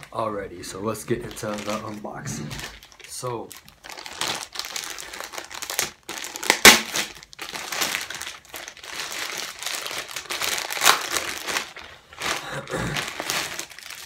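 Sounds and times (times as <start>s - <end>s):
plastic mailer crinkling: 0.7s - 14.0s.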